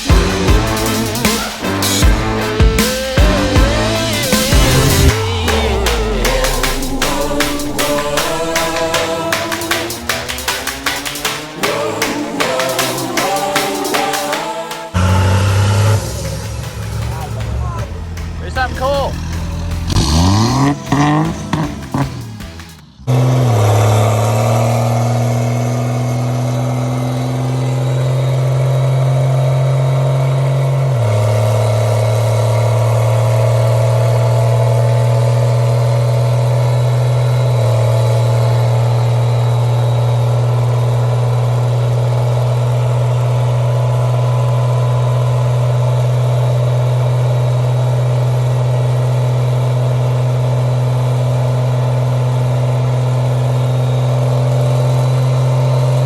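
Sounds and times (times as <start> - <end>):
truck engine at high revs: 0.0 - 56.0.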